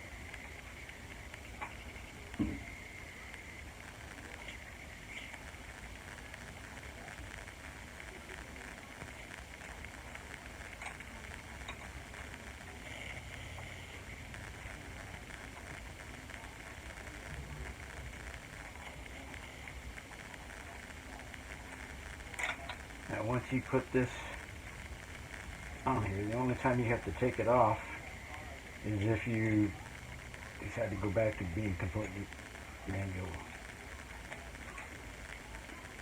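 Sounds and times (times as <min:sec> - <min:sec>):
low background hiss and hum: 0:00.0 - 0:36.0.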